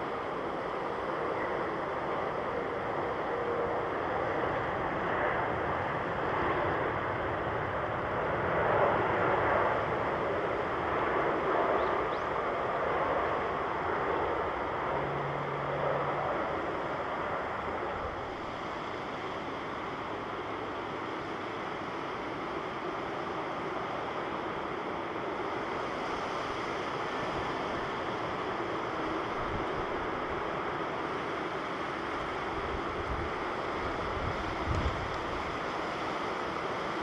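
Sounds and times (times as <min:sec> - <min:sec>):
distant jet airliner rumble: 0:00.0 - 0:37.0.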